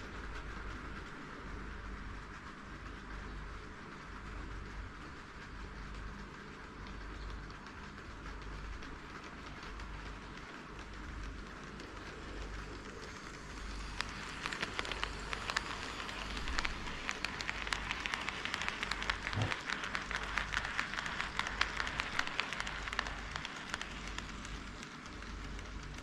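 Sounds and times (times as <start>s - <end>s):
model train wheels clicking: 0.0s - 26.0s.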